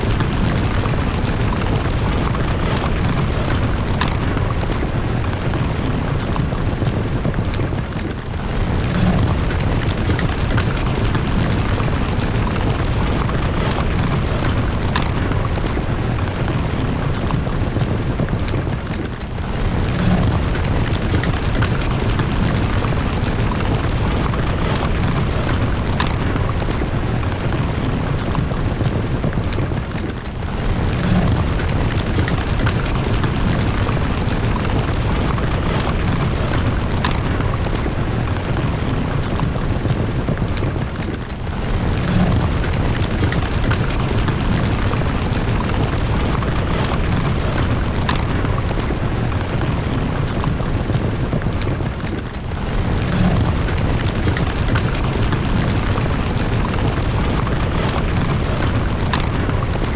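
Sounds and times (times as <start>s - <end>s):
loud steady low rumble: 0.0s - 18.6s, 19.4s - 29.8s, 30.6s - 51.6s, 52.4s - 59.9s.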